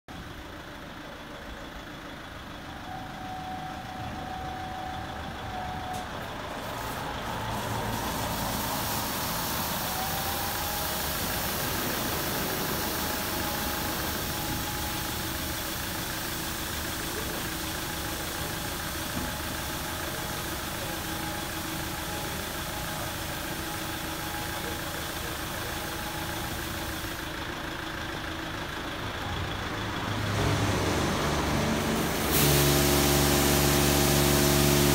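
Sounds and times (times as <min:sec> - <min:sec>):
car wash spray and machine noise: 0:05.5 - 0:28.9, 0:29.9 - 0:34.9.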